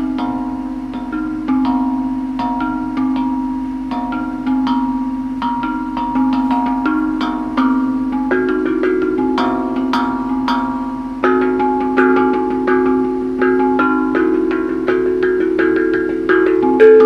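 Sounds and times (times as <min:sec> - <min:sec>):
tuned percussion melody: 0:00.0 - 0:17.0.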